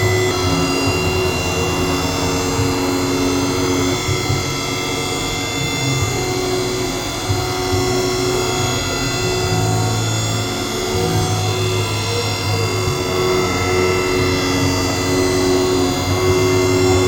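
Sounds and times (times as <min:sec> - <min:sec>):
milling machine whine and rumble: 0:00.0 - 0:17.0.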